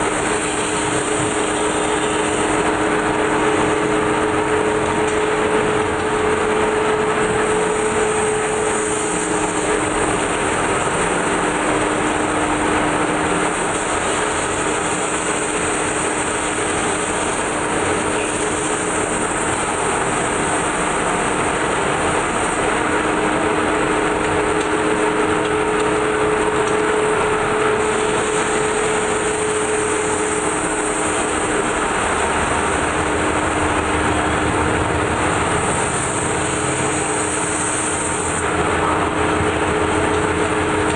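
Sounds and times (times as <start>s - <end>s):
metal lathe running: 0.0s - 40.9s.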